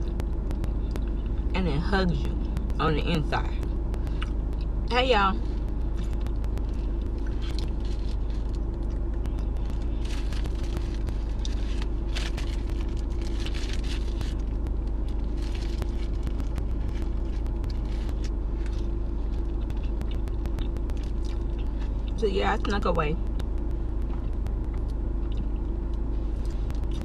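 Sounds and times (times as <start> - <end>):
car cabin hum: 0.0 - 27.0.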